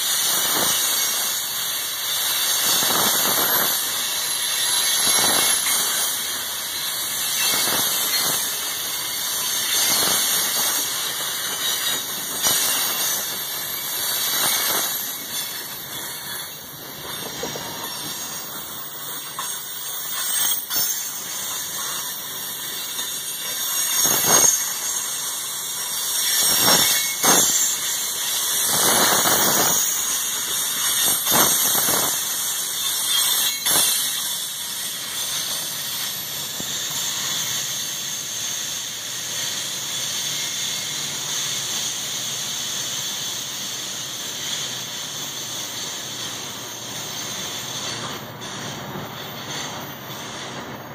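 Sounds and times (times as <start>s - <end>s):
train wheels squealing on rails: 0.0s - 50.9s.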